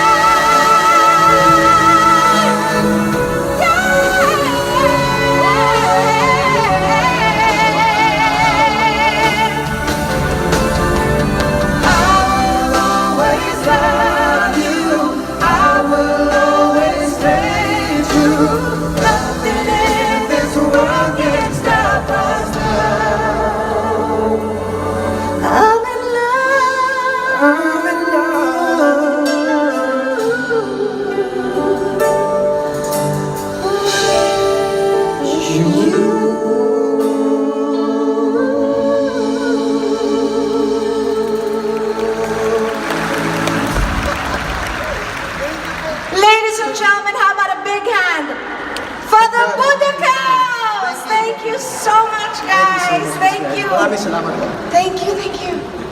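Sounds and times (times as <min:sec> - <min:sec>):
voices singing in harmony: 0:00.0 - 0:47.0
band accompaniment: 0:00.0 - 0:55.9.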